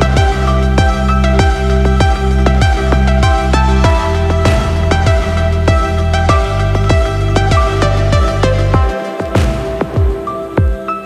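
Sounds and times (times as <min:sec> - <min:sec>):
deep kick drum: 0:00.0 - 0:11.0
electronic music with beat: 0:00.0 - 0:11.0.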